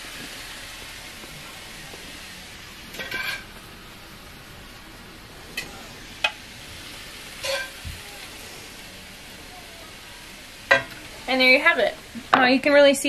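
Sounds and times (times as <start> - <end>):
stir fry sizzling in skillet: 0.0 - 13.0.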